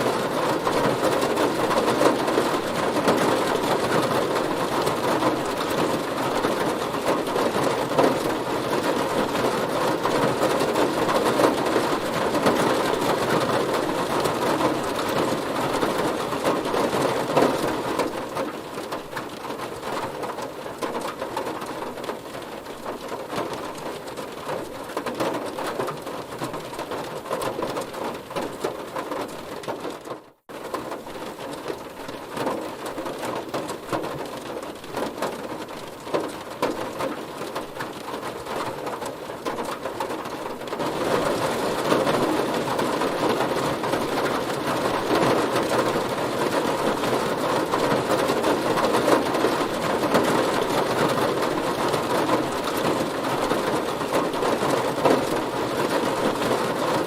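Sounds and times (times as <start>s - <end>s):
heavy rain drumming on a car: 0.0s - 57.0s.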